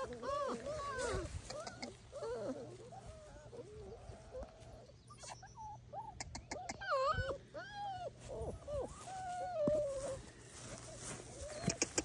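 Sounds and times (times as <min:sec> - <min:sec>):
puppies yipping and whining: 0:00.0 - 0:12.0.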